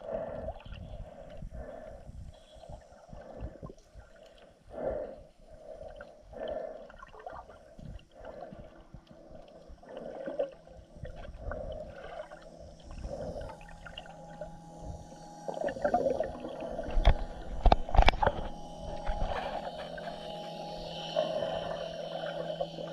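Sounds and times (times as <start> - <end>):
steady low hum: 0.0 - 22.9
underwater gurgling water: 0.0 - 22.9.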